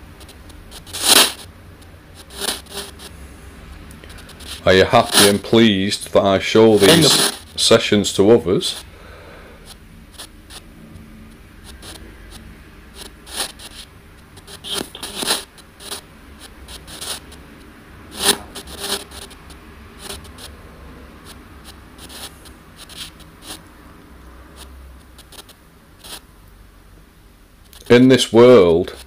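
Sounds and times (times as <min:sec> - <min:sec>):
radio static bursts: 0:00.0 - 0:26.3.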